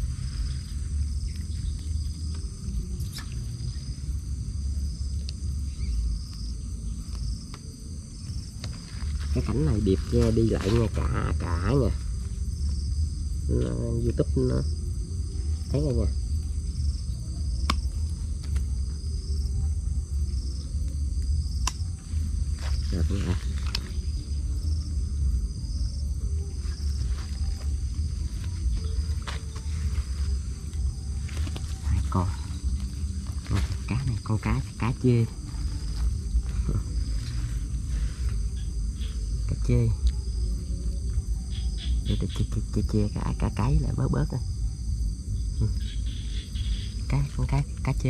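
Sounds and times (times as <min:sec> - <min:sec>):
low rumble on microphone: 0:00.0 - 0:48.0
night insects trilling: 0:00.0 - 0:48.0.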